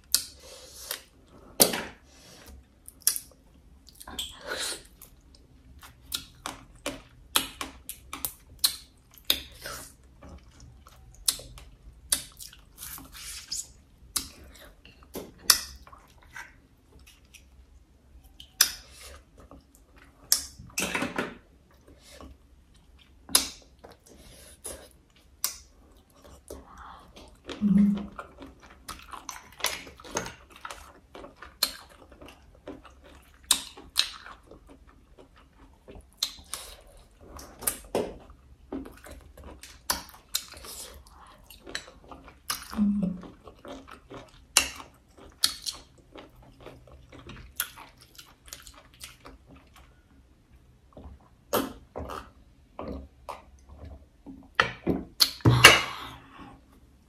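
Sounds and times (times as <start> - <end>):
wet chewing and mouth sounds: 0.0 - 20.8, 21.6 - 57.0.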